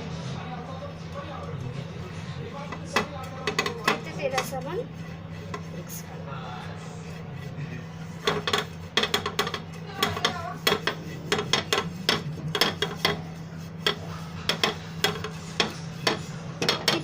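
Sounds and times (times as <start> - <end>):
spoon scraping a bowl: 2.5 - 17.0.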